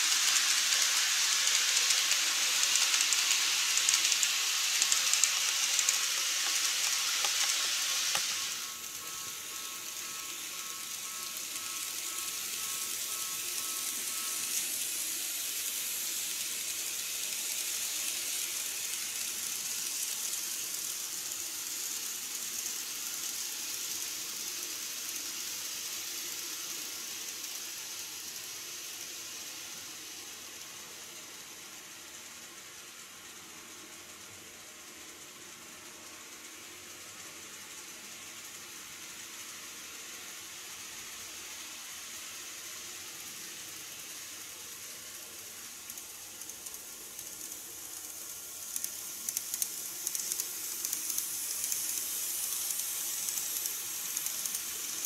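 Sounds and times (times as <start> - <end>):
faint steady whine: 0.0 - 55.0
model train running on track: 0.0 - 55.0.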